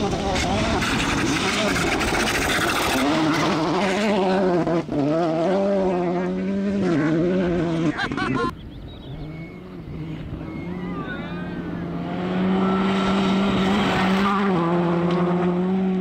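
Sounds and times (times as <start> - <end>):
distant rally car approaching: 0.0 - 16.0
rally car engine revving hard: 0.0 - 16.0.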